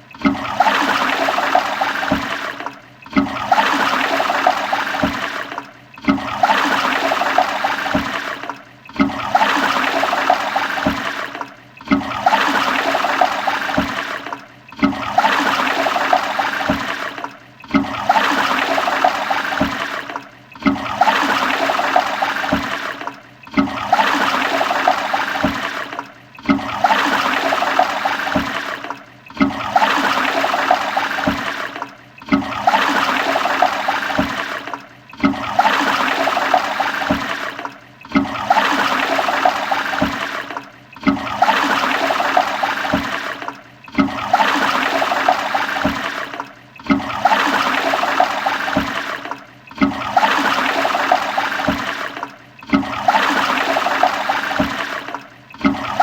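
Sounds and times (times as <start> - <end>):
toilet flushing: 0.0 - 56.0.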